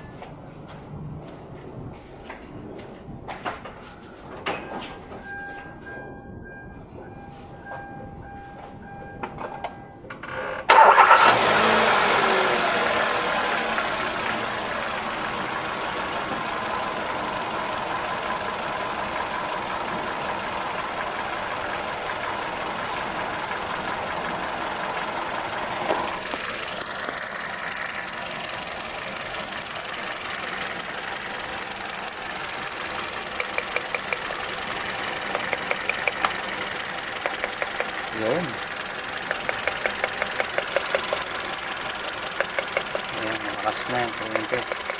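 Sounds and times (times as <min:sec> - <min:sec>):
car engine starting and idling: 0:04.8 - 0:44.9.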